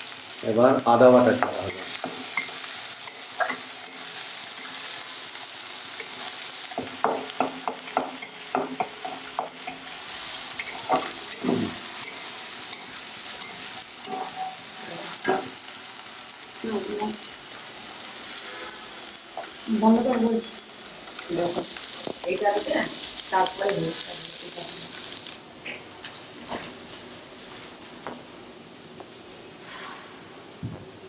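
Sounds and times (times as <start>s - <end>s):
food sizzling in hot oil: 0.0s - 28.4s.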